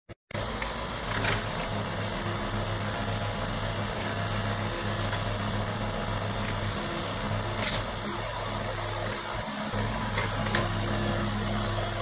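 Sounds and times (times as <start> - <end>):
excavator diesel engine running: 0.3 - 12.0.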